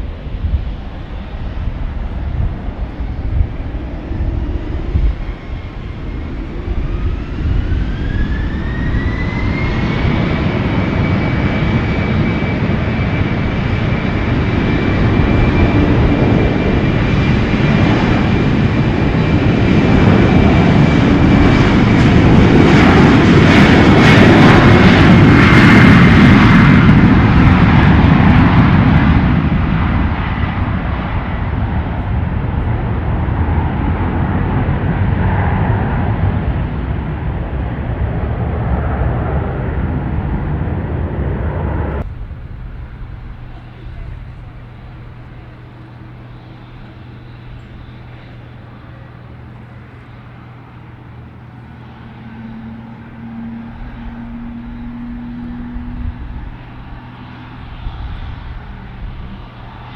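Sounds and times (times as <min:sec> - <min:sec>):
jet engine whine and roar: 0:00.0 - 0:59.9.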